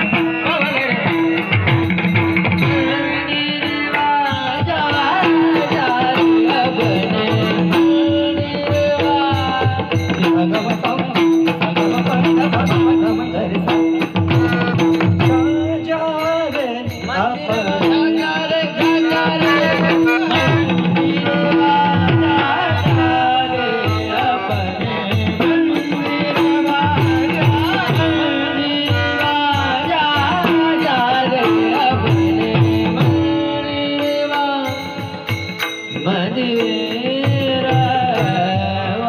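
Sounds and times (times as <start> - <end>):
man singing ornamented melody: 0.0 - 39.0
tabla and percussion: 0.0 - 39.0.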